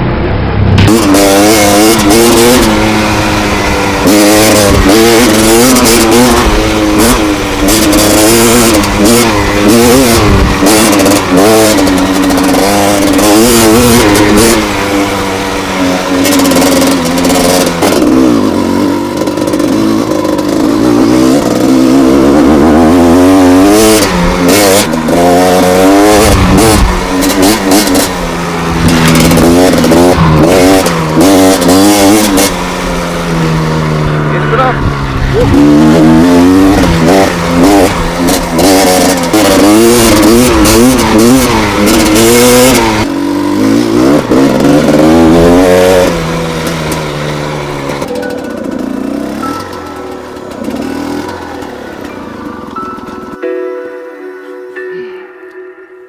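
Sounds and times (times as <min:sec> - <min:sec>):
two-stroke motorcycle engine revving: 0:00.6 - 0:53.5.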